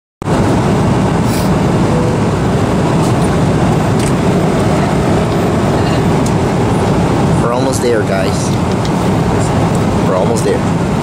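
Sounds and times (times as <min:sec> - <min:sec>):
moving vehicle rumbling: 0:00.2 - 0:11.0.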